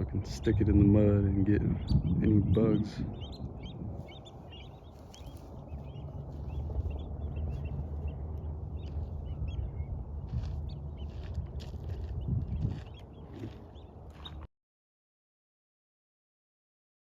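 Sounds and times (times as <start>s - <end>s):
wetland birds calling: 0.0s - 14.4s
steady low rumble: 0.0s - 14.5s.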